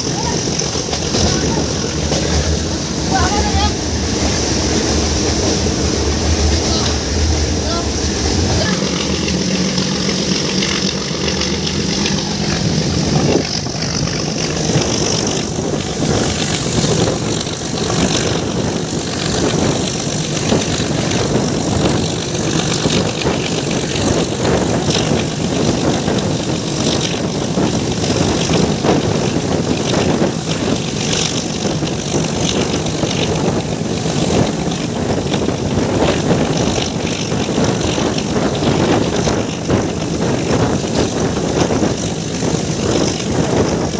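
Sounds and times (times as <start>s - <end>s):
train wheels clattering on track: 0.0s - 43.9s.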